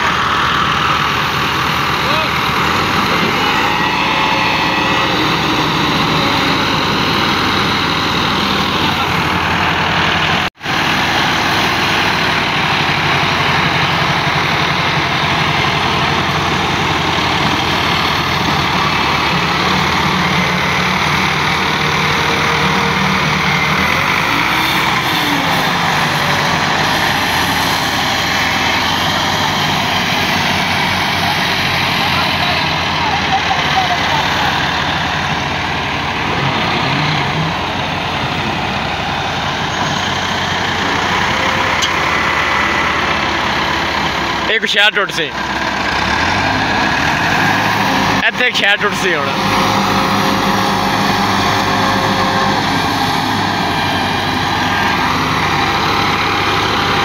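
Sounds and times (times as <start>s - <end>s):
tractor engines running hard: 0.0s - 57.0s.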